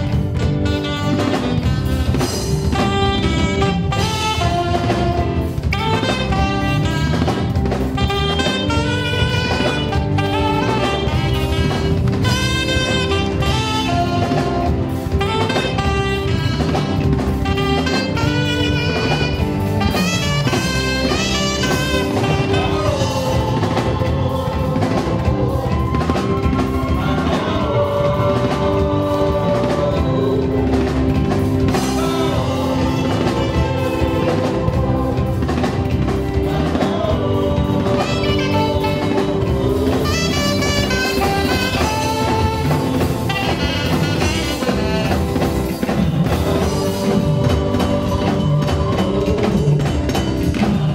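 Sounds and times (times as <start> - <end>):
saxophone melody: 0.0 - 50.6
bass guitar: 0.0 - 50.9
drum kit: 0.0 - 50.9
keyboard: 0.0 - 50.9.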